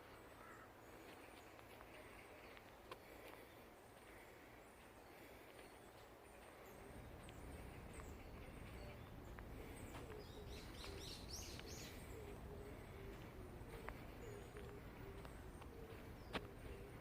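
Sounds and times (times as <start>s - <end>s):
low steady background rumble: 0.0s - 17.0s
small birds chirping: 0.0s - 17.0s.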